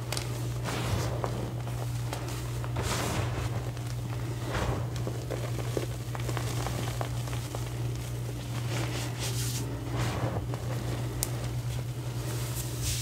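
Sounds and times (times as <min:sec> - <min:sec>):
hands squeezing powdered chalk: 0:00.0 - 0:13.0
steady low hum: 0:00.0 - 0:13.0.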